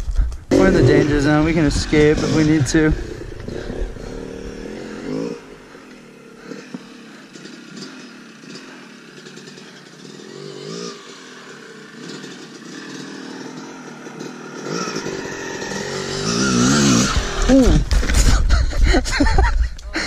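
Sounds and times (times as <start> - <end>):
two-stroke dirt bike engine: 0.0 - 20.0.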